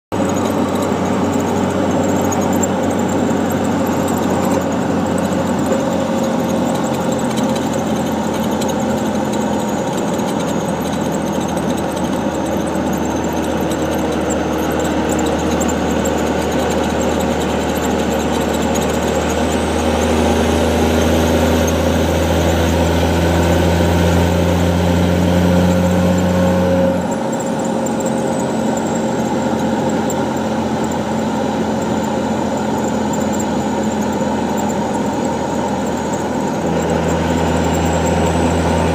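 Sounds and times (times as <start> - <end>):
vehicle deep drone: 0.0 - 38.9.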